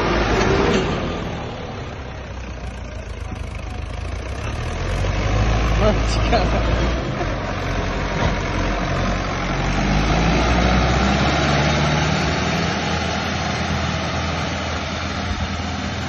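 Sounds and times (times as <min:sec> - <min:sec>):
tractor diesel engine running hard: 0:00.0 - 0:16.0.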